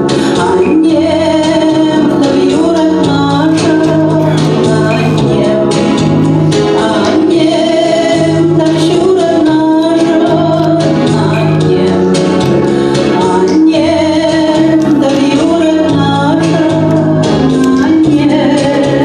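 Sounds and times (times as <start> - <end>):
instrumental accompaniment with bass: 0.0 - 19.0
woman singing into a microphone: 0.0 - 19.0.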